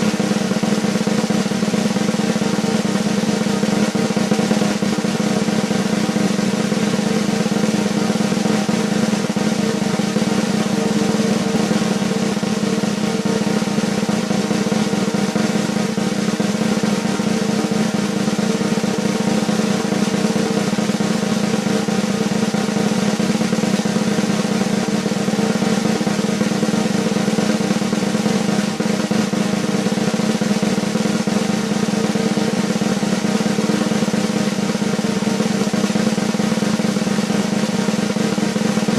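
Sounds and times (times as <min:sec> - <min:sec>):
snare drum roll: 0:00.0 - 0:38.9.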